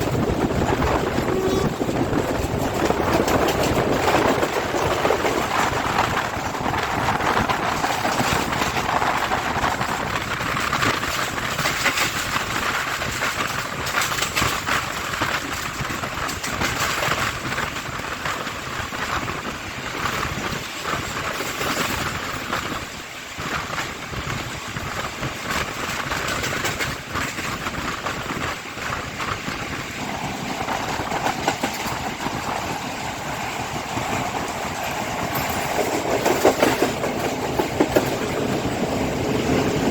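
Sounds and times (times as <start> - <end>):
train rushing and rumbling: 0.0 - 39.9
wheels clattering over track: 0.0 - 39.9.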